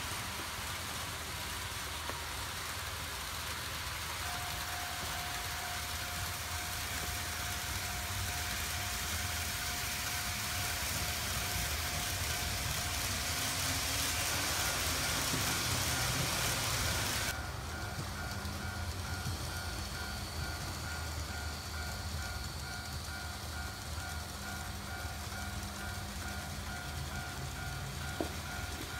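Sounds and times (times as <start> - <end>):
model train wheels rattling on rails: 0.0 - 28.9.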